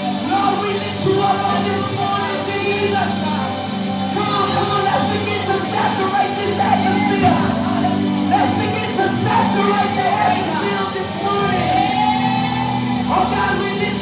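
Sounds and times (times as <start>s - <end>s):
band playing sustained chords: 0.0s - 14.0s
voices singing: 0.0s - 14.0s.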